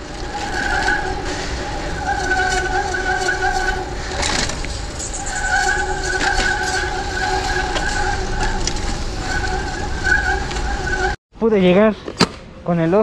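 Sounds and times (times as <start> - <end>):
steady whine: 0.0 - 11.2.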